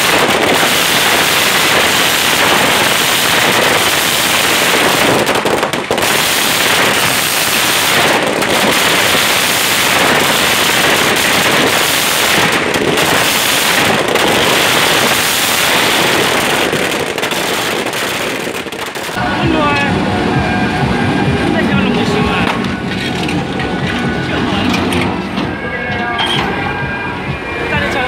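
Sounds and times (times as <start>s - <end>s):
firecrackers crackling: 0.0s - 25.6s.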